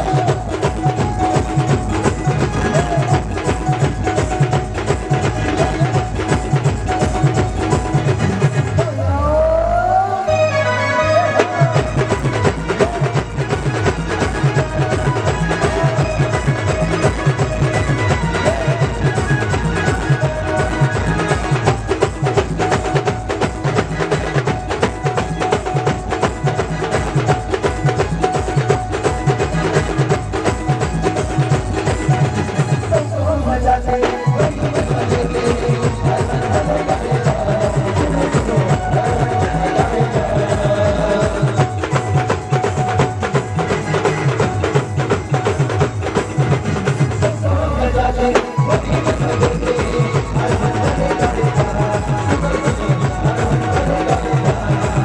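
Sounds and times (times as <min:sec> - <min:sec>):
drum beat: 0:00.0 - 0:09.0, 0:11.4 - 0:33.0, 0:34.0 - 0:47.4, 0:48.3 - 0:55.0
fast percussion with clicking strokes: 0:00.0 - 0:09.0, 0:11.4 - 0:33.2, 0:33.9 - 0:55.0.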